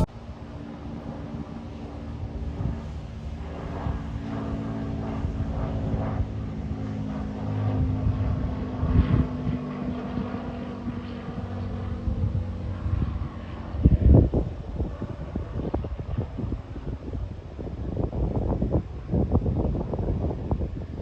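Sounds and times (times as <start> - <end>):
propeller plane droning: 0.0 - 21.0
wind buffeting microphone: 0.0 - 21.0.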